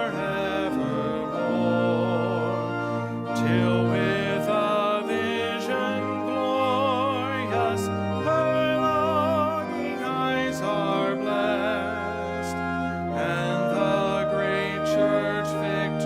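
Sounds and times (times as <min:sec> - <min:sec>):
person singing with vibrato: 0:00.0 - 0:16.0
sustained accompaniment: 0:00.0 - 0:16.0.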